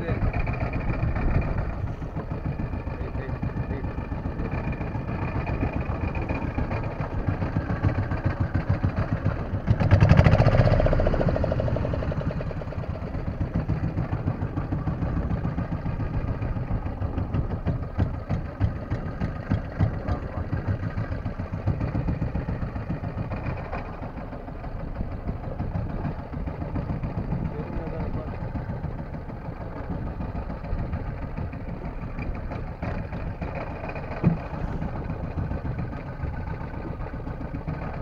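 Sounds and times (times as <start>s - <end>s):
boat engine idling: 0.0s - 38.0s.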